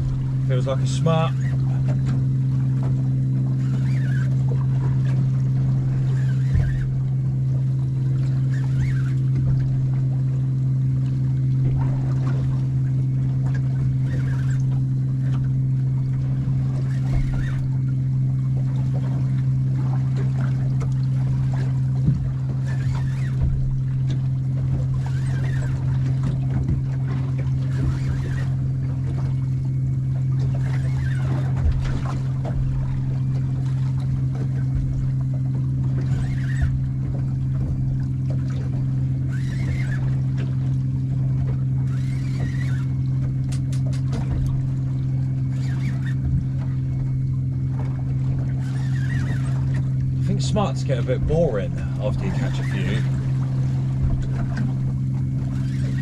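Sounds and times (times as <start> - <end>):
steady low hum: 0.0 - 56.0
water slapping against hull: 0.0 - 56.0.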